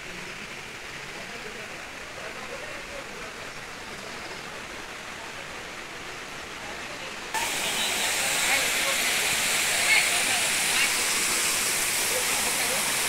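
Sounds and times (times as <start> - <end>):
distant waterfall rush: 0.0 - 13.0
water cascading over rocks: 0.0 - 13.0.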